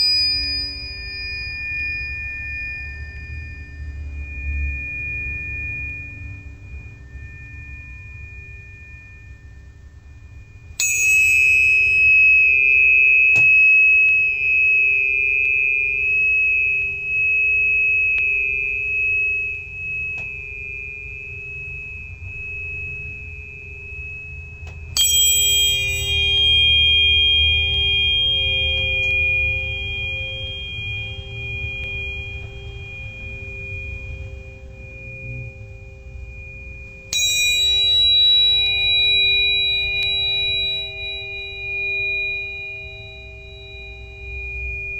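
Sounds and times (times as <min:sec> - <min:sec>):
struck metal bowl ringing: 0:00.0 - 0:09.4, 0:10.1 - 0:34.2, 0:37.1 - 0:44.9.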